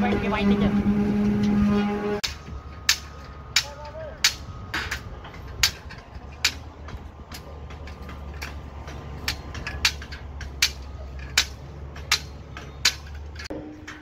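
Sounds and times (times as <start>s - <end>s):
hammer striking steel: 0.0s - 14.0s
low machine hum: 0.0s - 14.0s.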